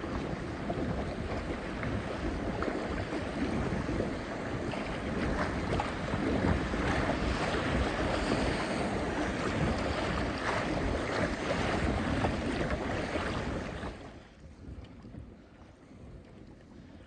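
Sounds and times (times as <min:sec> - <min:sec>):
rushing whitewater splashing: 0:00.0 - 0:14.2.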